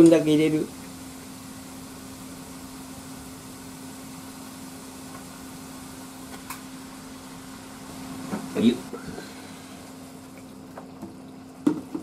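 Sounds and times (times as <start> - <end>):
electrical hum of kitchen equipment: 0.0 - 12.0.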